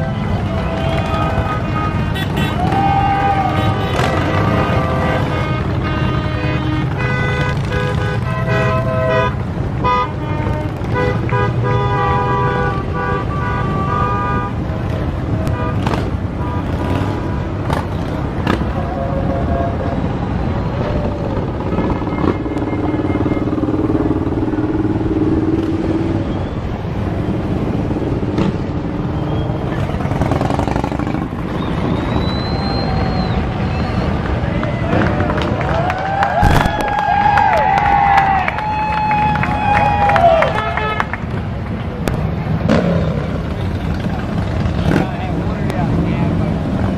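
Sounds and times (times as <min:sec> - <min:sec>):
motorcycle engines running: 0:00.0 - 0:35.9, 0:39.2 - 0:46.9
horns honking: 0:00.0 - 0:36.8, 0:37.4 - 0:46.9.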